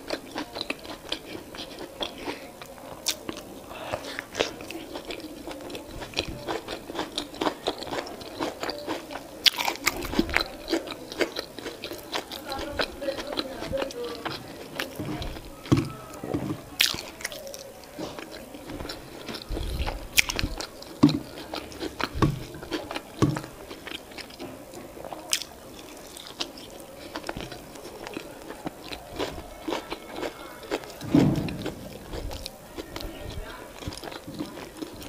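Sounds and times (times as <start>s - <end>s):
wet chewing and lip smacks: 0.0s - 35.0s.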